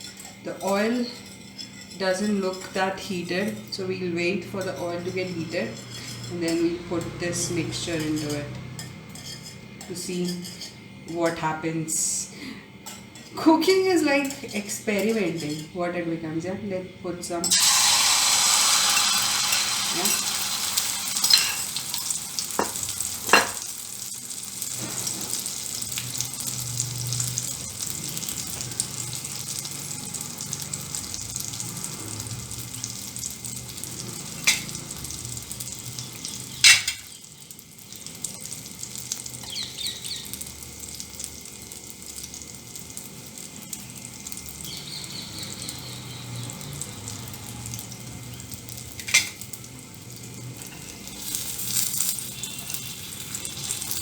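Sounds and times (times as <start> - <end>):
food sizzling in oil: 0.0 - 10.9, 17.4 - 54.0.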